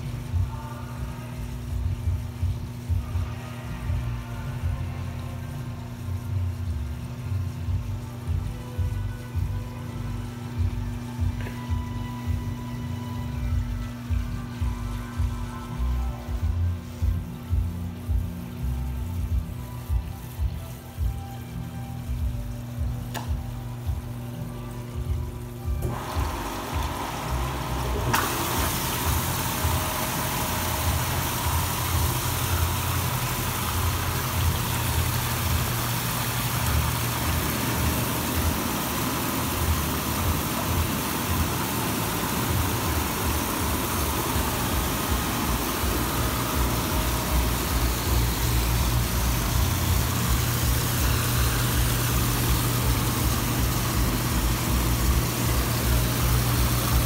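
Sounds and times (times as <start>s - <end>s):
hot tub jets churning water: 0.0s - 57.0s
pump humming: 0.0s - 57.0s.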